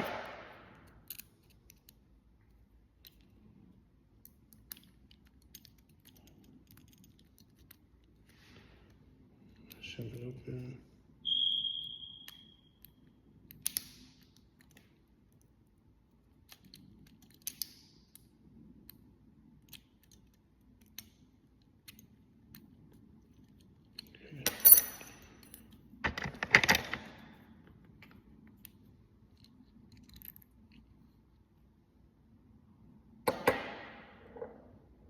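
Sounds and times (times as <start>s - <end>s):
light clicks of lock parts: 0.8s - 10.7s, 12.2s - 31.7s.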